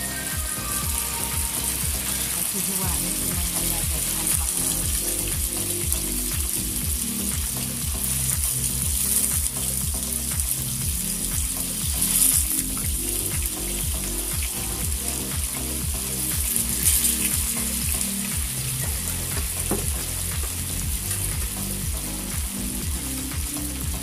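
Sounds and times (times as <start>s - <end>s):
background music with low beat: 0.0s - 24.0s
tofu sizzling in hot oil: 0.2s - 24.0s.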